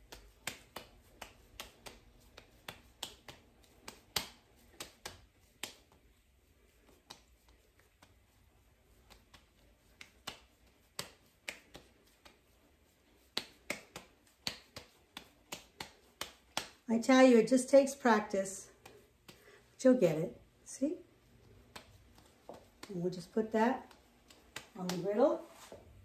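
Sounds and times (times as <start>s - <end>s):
hands patting dough: 0.0s - 19.6s, 20.8s - 26.0s.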